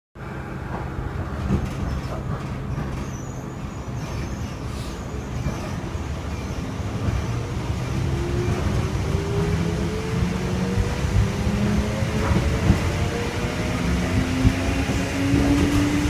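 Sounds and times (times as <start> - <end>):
low hum inside train car: 0.2 - 16.0.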